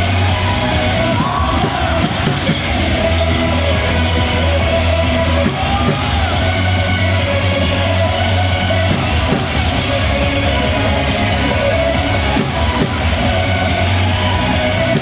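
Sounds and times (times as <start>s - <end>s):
rock cheer song with guitar: 0.0s - 15.0s
voices yelling and singing along: 0.0s - 15.0s.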